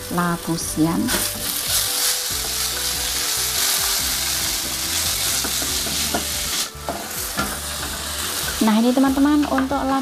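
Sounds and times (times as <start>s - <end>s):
vegetables sizzling in a wok: 0.0s - 10.0s.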